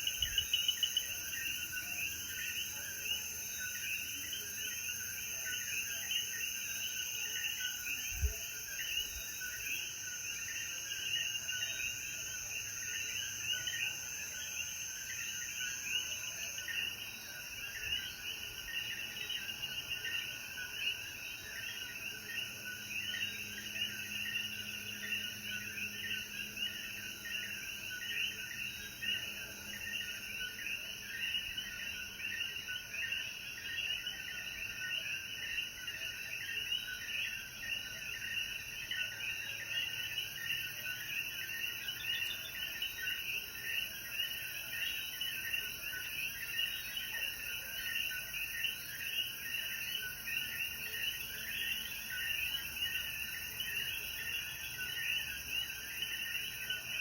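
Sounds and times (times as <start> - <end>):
frogs chirping: 0.0 - 57.0.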